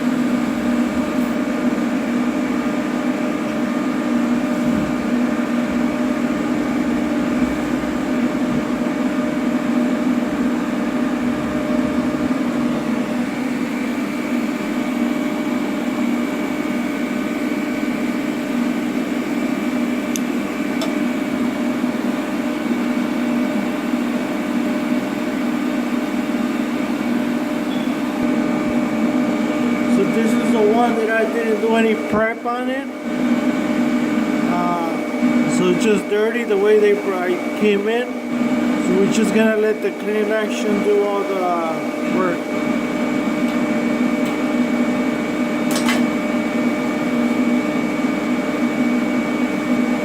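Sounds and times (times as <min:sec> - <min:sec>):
welding arc buzzing: 0:00.0 - 0:50.0.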